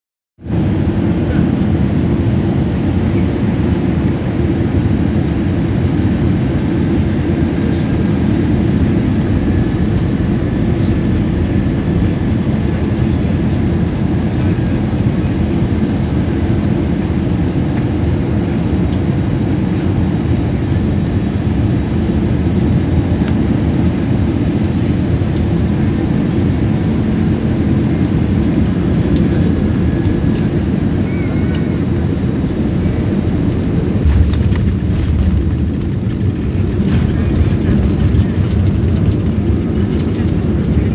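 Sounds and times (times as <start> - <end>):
airliner cabin rumble: 0.4 - 40.9.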